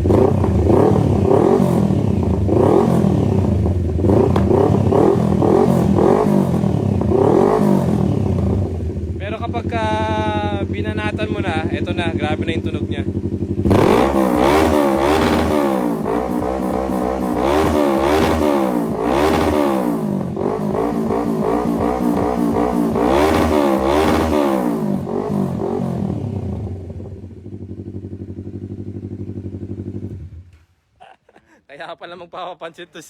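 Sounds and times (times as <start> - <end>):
motorcycle engine revving: 0.0 - 30.6.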